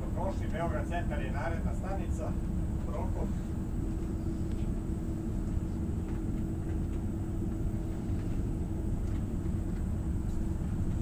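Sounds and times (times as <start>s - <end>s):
constant hum: 0.0s - 11.0s
train rumbling inside carriage: 0.0s - 11.0s.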